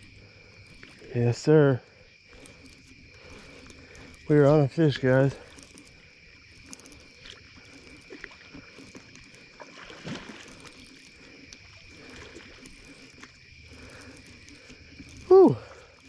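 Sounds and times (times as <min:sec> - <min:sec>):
fishing reel being cranked: 0:00.0 - 0:09.6, 0:10.3 - 0:16.0
high insect trill: 0:00.0 - 0:16.0.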